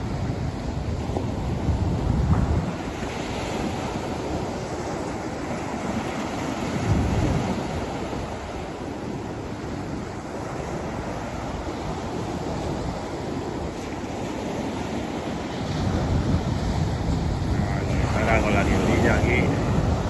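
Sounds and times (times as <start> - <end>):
surf breaking on a beach: 0.0 - 20.0
wind buffeting microphone: 0.0 - 20.0.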